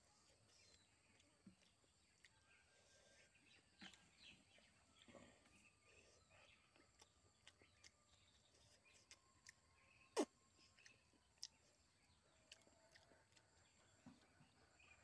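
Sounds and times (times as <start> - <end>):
mouth clicks and smacks chewing: 0.0 - 15.0.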